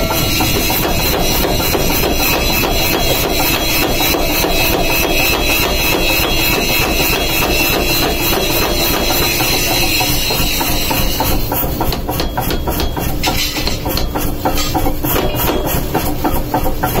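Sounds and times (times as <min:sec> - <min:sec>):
machine running: 0:00.0 - 0:17.0
power hammer pounding steel: 0:00.0 - 0:17.0.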